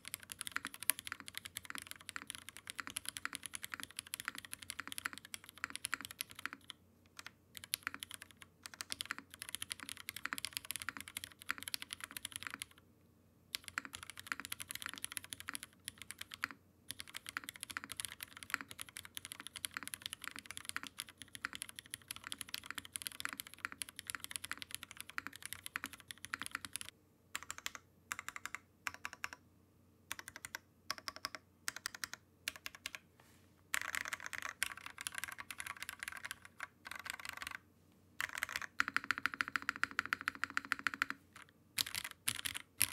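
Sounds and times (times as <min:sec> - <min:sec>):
mechanical keyboard typing: 0:00.0 - 0:12.8, 0:13.5 - 0:29.4, 0:30.1 - 0:33.0, 0:33.7 - 0:37.6, 0:38.2 - 0:42.9.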